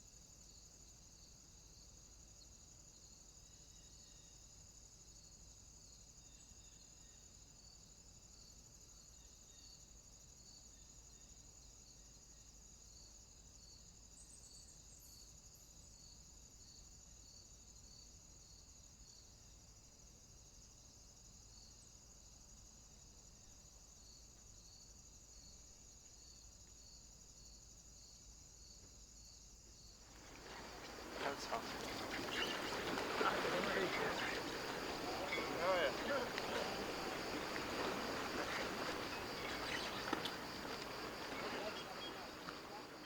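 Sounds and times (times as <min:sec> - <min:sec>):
faint crickets chirping: 0:00.0 - 0:43.0.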